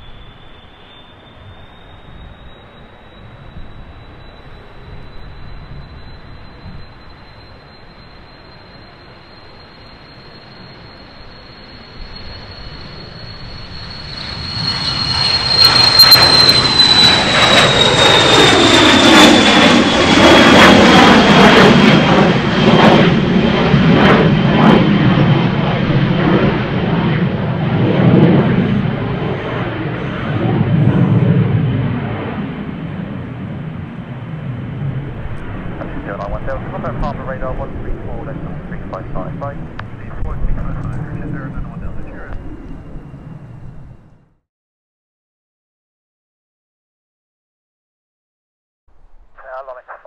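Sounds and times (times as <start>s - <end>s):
jet passing by: 0.0s - 44.4s.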